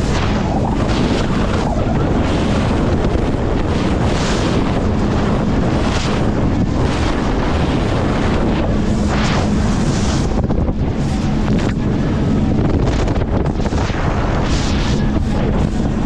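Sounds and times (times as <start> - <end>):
boat engine drone: 0.0 - 16.0
wind buffeting microphone: 0.0 - 16.0.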